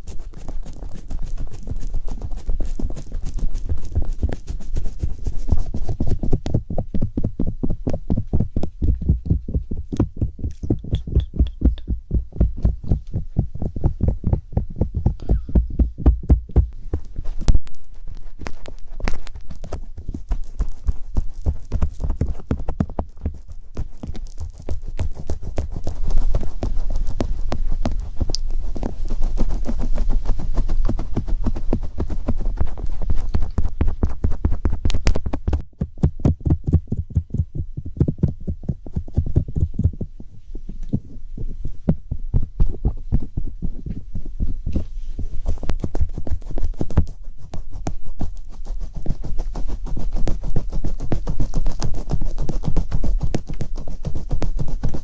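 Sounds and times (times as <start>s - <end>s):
rapid tapping and clicking: 0.0s - 40.2s, 44.7s - 55.0s
deep muffled thumps: 5.6s - 55.0s.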